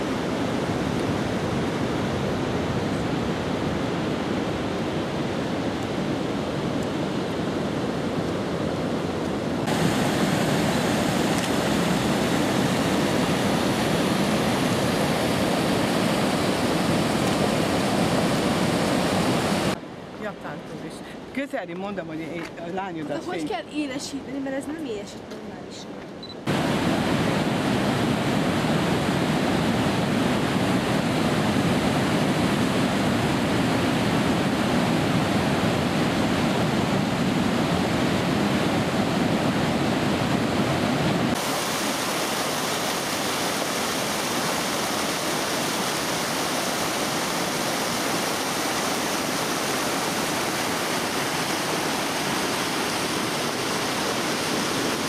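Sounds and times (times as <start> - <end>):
flowing water rushing: 0.0 - 20.1, 26.5 - 55.0.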